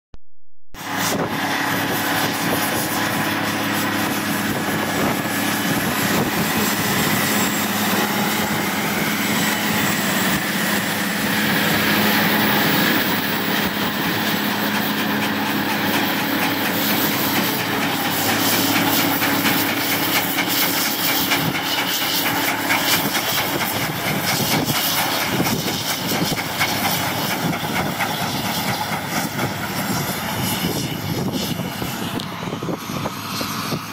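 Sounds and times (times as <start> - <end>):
machine engine and hydraulics: 0.8 - 33.9
milling machine grinding asphalt: 0.8 - 33.9.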